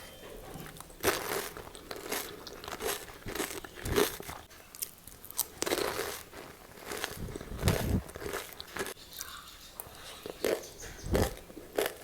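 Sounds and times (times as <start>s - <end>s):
crunchy snack chewing: 0.7s - 9.4s, 10.2s - 12.0s.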